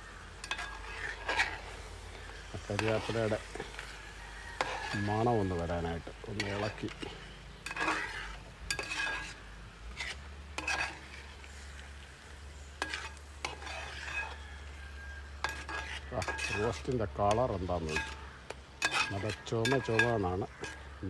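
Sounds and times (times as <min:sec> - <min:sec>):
low frying sizzle: 0:00.0 - 0:21.0
metal spatula scraping metal pot: 0:00.3 - 0:04.0, 0:04.6 - 0:11.4, 0:12.7 - 0:21.0.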